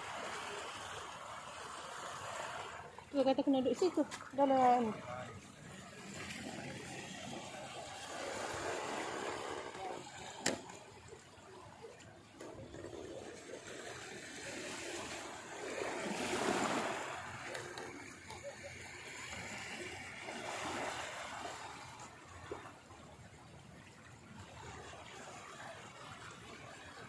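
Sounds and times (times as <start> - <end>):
sea waves washing on beach: 0.0 - 27.0.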